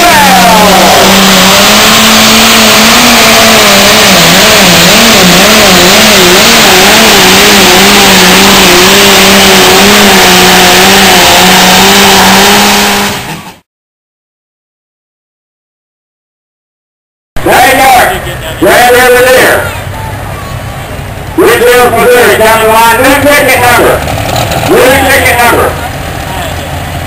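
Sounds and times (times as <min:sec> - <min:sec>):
diesel tractor engine roaring: 0:00.0 - 0:13.6, 0:17.4 - 0:27.0.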